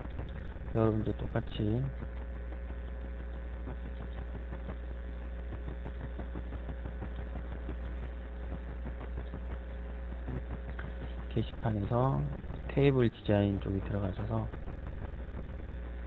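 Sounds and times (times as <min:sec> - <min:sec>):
faint constant tone: 0:00.0 - 0:16.0
low electrical hum: 0:00.0 - 0:16.0.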